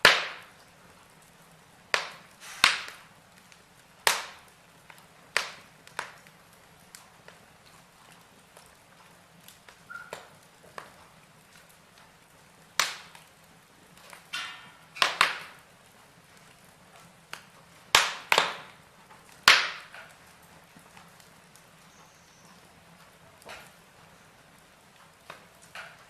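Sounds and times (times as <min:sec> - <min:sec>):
faint hiss of fire: 0:00.0 - 0:26.0
logs crackling in fireplace: 0:00.0 - 0:26.0.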